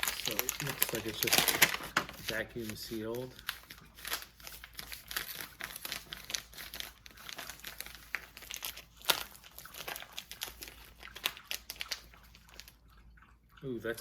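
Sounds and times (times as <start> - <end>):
coffee bag crinkling: 0.0 - 12.8.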